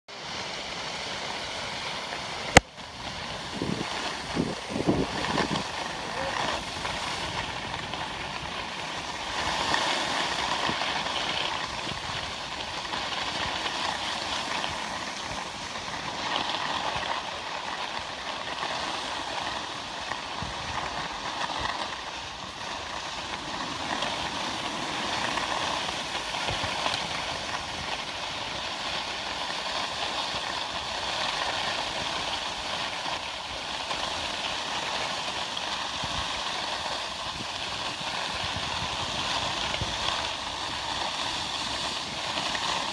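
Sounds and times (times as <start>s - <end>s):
skis hissing over snow: 0.1s - 42.9s.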